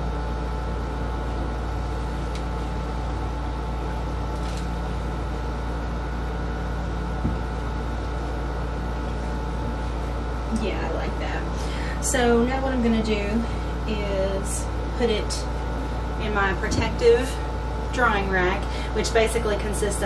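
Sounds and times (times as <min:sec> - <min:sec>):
appliance hum and hiss: 0:00.0 - 0:20.0.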